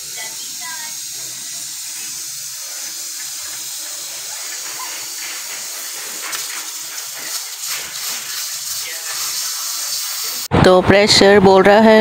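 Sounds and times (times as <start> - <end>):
pressure cooker hissing and whistling: 0.0 - 10.5.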